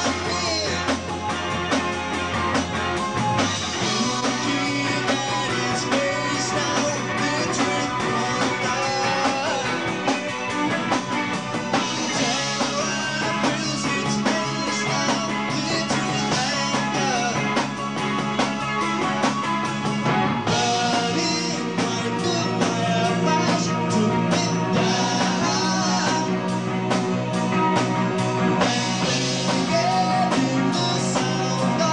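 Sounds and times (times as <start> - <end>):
drum kit with cymbals: 0.0 - 31.9
electric guitar: 0.0 - 31.9
live rock band: 0.0 - 31.9.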